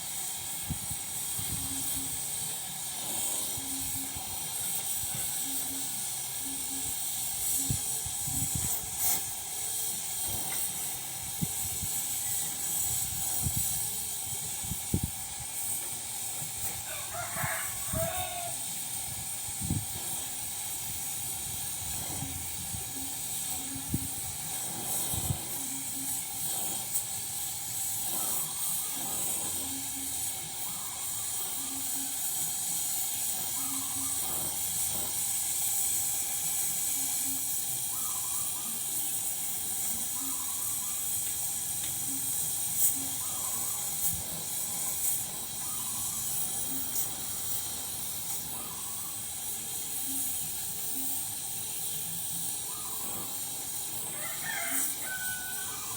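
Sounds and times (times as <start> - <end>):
welding arc hissing and crackling: 0.0 - 55.9.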